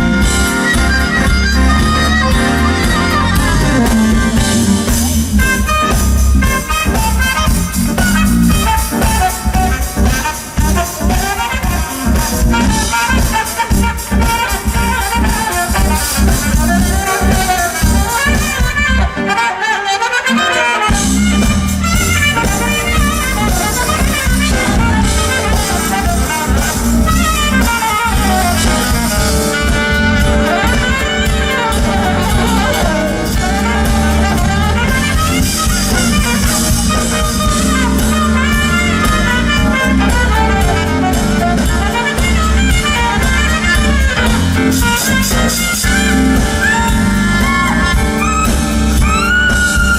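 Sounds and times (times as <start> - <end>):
saxophone lead lines: 0.0 - 49.9
smooth jazz band playing: 0.0 - 49.9.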